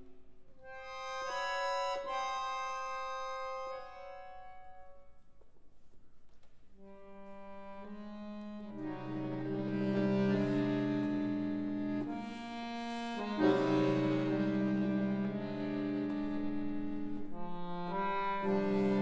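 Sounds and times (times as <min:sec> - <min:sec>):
button accordion playing chords: 0:00.0 - 0:05.3, 0:06.8 - 0:19.0.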